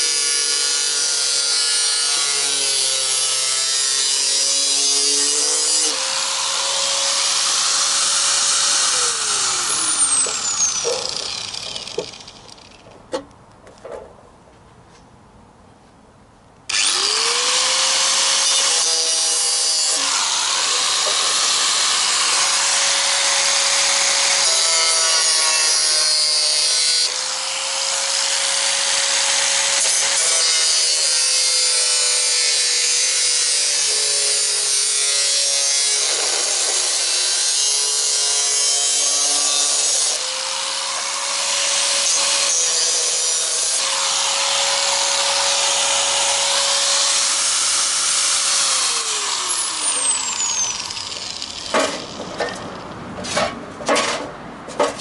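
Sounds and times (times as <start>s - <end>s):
electric drill disc cutting steel: 0.0s - 12.8s, 16.7s - 52.8s.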